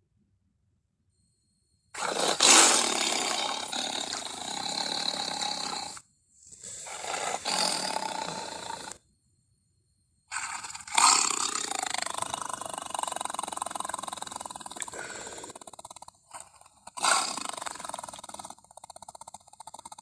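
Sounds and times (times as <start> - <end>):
dinosaur roar: 2.0 - 6.0, 6.7 - 9.0, 10.3 - 20.0.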